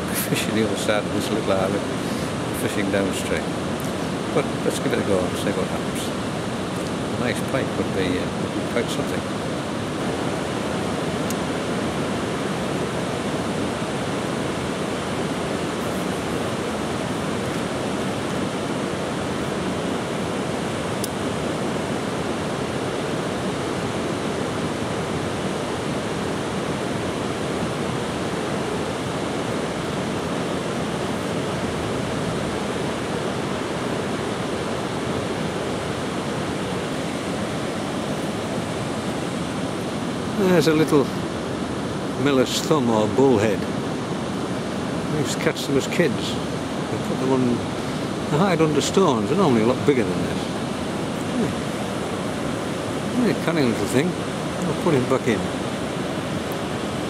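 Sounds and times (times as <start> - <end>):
water rushing over a weir: 0.0 - 57.0.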